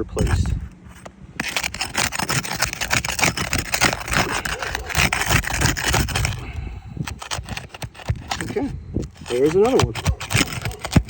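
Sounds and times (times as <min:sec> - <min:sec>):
tool scraping under roof shingles: 0:00.0 - 0:11.0.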